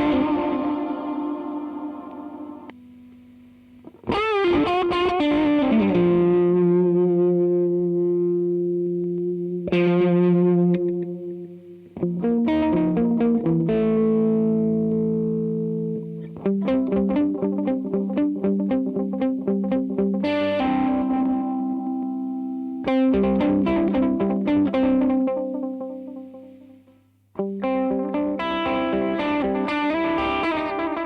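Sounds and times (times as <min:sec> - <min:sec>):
electric guitar with reverb and delay: 0:00.0 - 0:31.0.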